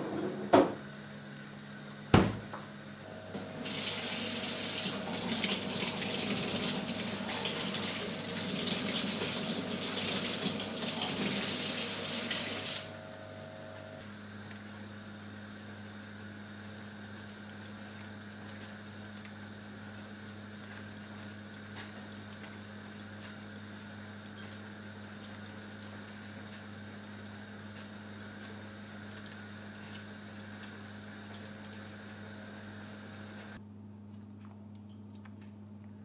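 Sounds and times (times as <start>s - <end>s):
kitchen appliance humming: 0.0s - 33.6s.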